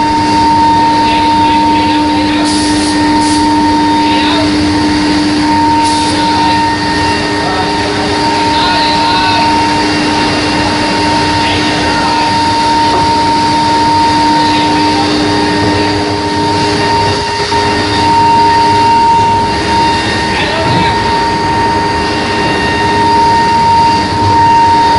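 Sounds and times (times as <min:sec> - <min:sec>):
high-pitched whine: 0:00.0 - 0:24.9
low hum: 0:00.0 - 0:24.9
machinery noise: 0:00.0 - 0:24.9.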